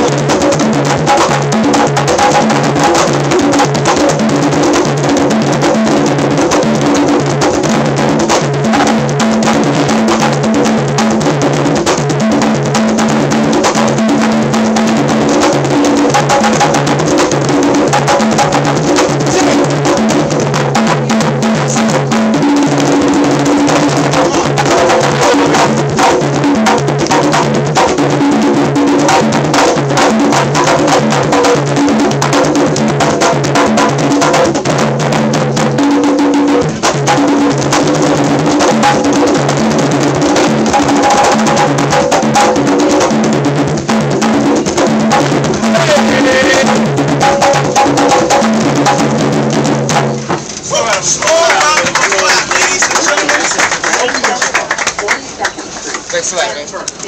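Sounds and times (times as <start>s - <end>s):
congas played by hand: 0.0s - 56.2s.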